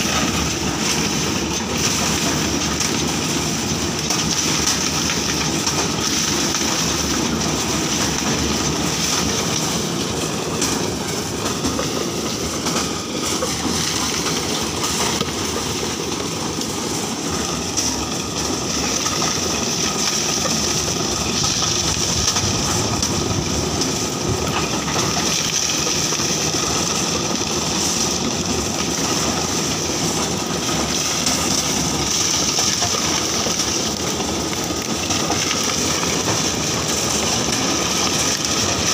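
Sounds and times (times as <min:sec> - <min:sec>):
dehusking machine rattling: 0:00.0 - 0:38.9.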